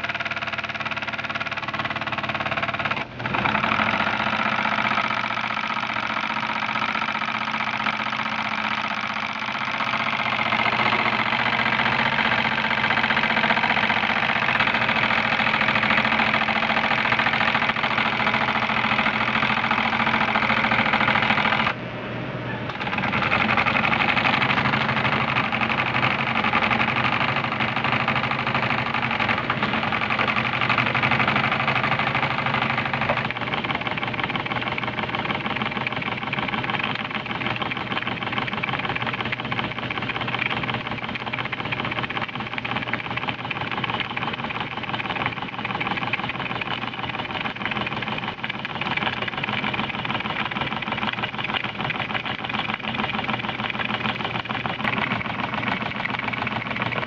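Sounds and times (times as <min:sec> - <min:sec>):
steam engine chugging: 0:00.0 - 0:21.8, 0:22.5 - 0:57.0.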